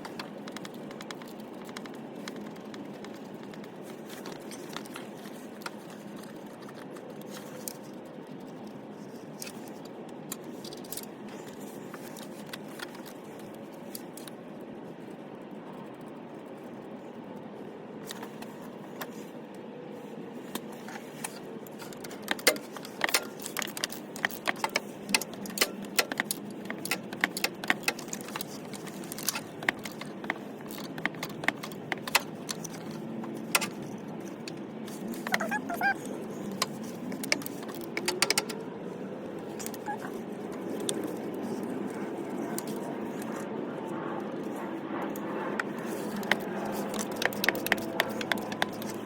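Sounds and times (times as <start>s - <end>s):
background hum: 0.0s - 49.0s.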